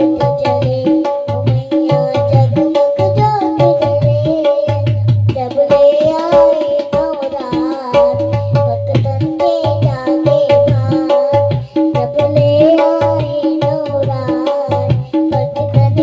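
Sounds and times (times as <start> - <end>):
person singing melody: 0.0 - 16.0
tabla playing: 0.0 - 16.0.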